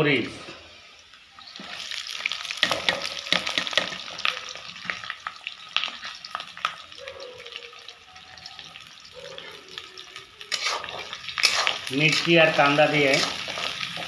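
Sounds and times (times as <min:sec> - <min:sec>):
onions sizzling in hot oil: 0:00.1 - 0:14.0.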